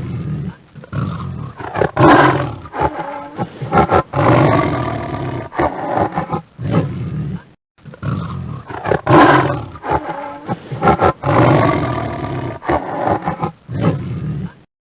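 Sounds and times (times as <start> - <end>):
tiger roaring: 0.0 - 14.6.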